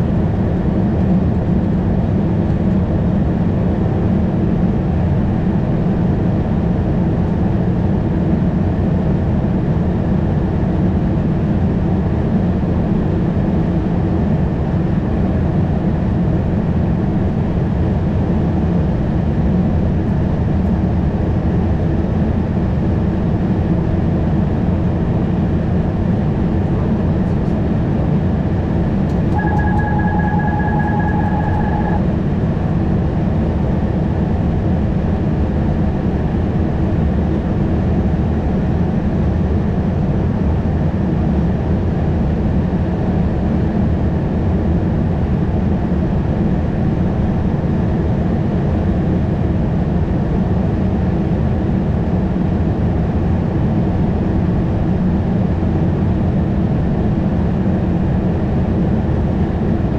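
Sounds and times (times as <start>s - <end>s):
aircraft cockpit rumble: 0.0s - 59.9s.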